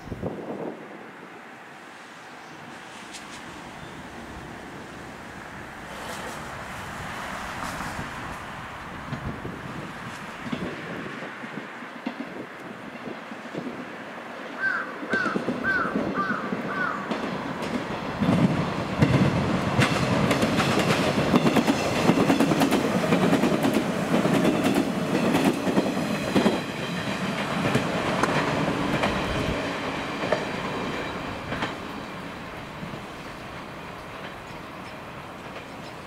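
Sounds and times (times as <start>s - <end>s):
train wheels clattering over rails: 2.9s - 13.9s, 15.0s - 36.0s.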